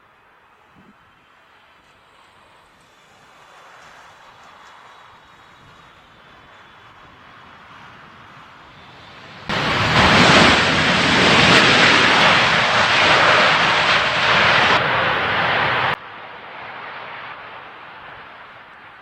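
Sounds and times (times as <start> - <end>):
jet engines roaring: 0.0 - 19.0
wind noise: 3.4 - 19.0.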